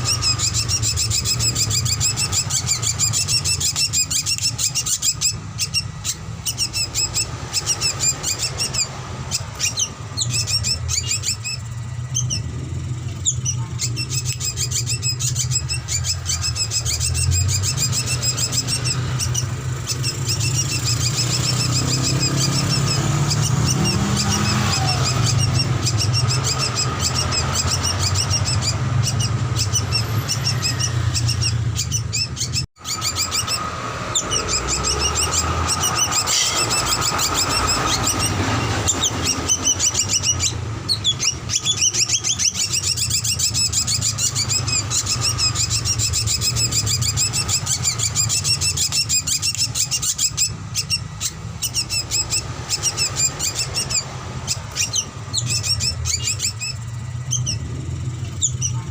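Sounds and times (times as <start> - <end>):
bird rapid chirping song: 0.0 - 58.9
steady low hum: 0.0 - 58.9.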